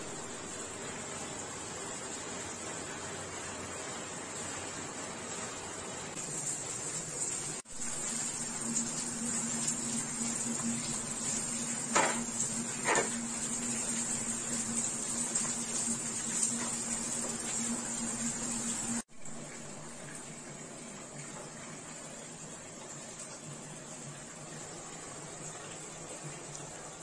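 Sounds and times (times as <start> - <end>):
electric cooktop hum: 0.0 - 27.0.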